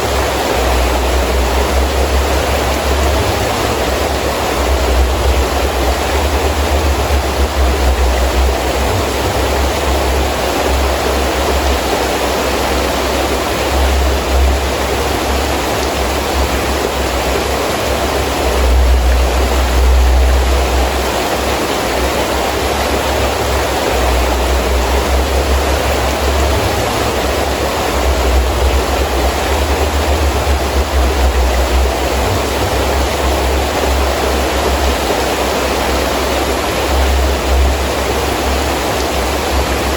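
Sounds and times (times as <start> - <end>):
deep rumble of wind gusts: 0.0 - 39.9
heavy rain: 0.0 - 39.9.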